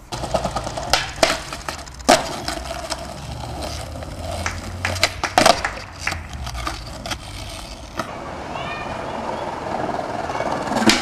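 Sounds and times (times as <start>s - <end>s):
skateboard wheels rolling: 0.0s - 11.0s
skateboard clacks: 0.1s - 11.0s.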